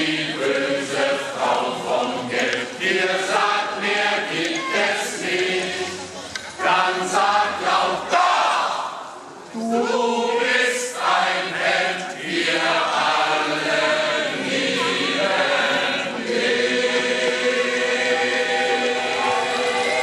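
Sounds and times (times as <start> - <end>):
crowd singing in chorus: 0.0 - 20.0.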